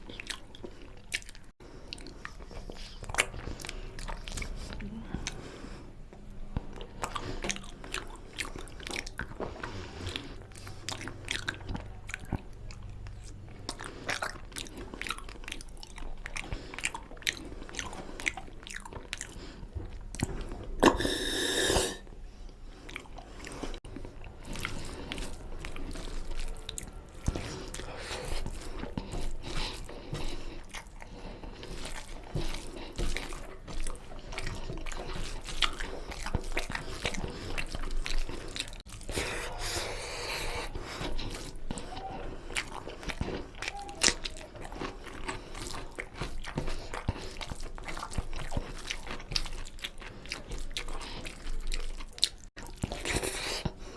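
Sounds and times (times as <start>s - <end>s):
wet chewing: 0.0s - 53.9s.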